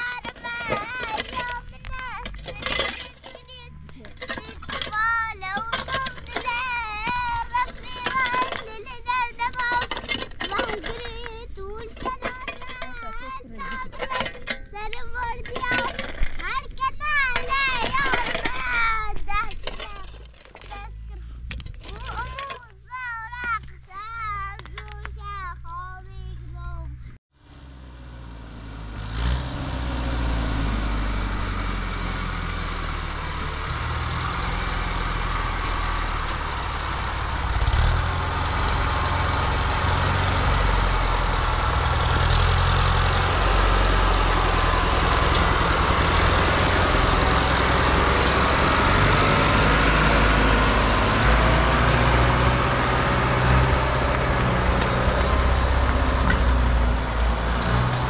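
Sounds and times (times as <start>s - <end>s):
road and wind noise: 0.0s - 58.0s
vehicle engine rumble: 0.0s - 58.0s.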